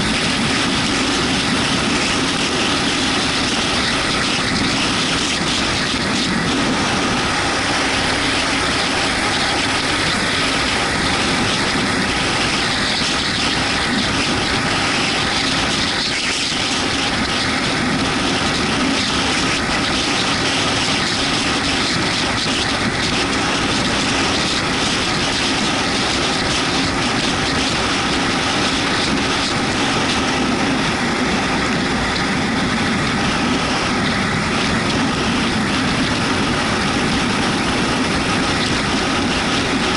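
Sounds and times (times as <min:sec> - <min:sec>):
motorcycle engine running: 0:00.0 - 0:39.9
wind and tyre noise: 0:00.0 - 0:39.9.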